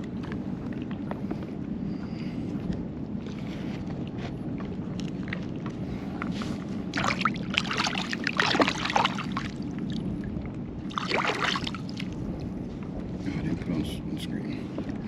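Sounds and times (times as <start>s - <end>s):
steady low rumble: 0.0s - 15.0s
water splashing and sloshing: 0.0s - 15.0s.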